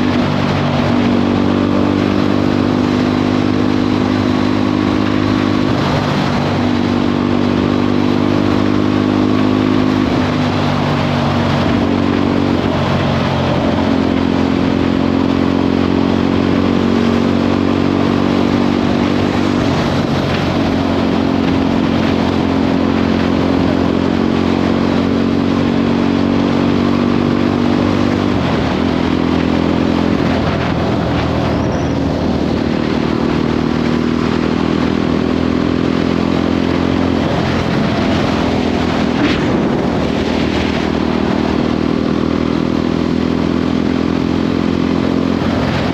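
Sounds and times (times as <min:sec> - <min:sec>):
motorcycle engine cruising: 0:00.0 - 0:45.9
wind noise: 0:00.0 - 0:45.9.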